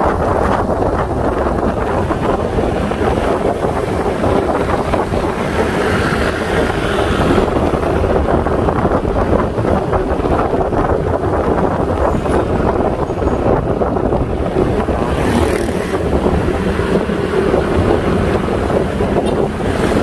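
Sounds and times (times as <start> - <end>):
road noise: 0.0 - 20.0
scooter engine: 0.0 - 20.0
wind buffeting microphone: 0.0 - 20.0.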